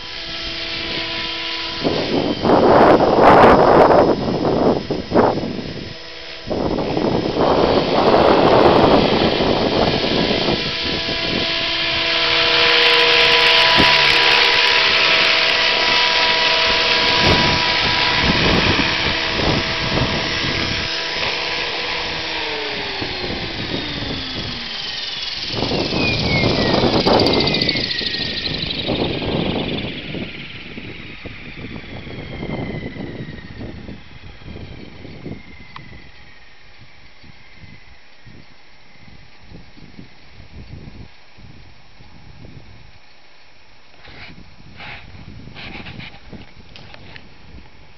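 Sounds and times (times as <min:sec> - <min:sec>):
wind buffeting microphone: 0:00.0 - 0:43.0, 0:44.0 - 0:47.9
model helicopter motor whine: 0:00.0 - 0:47.9.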